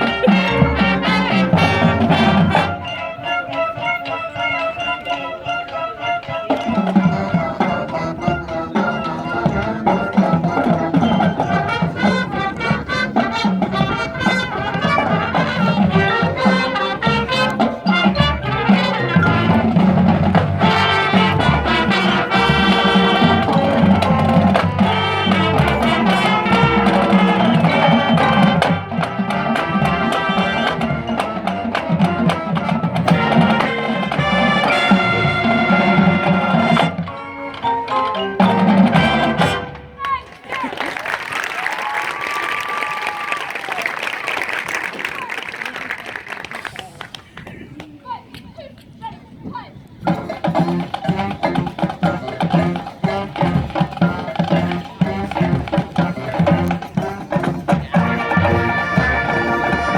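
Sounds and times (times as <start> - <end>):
marching band playing: 0.0 - 46.6, 50.0 - 59.9.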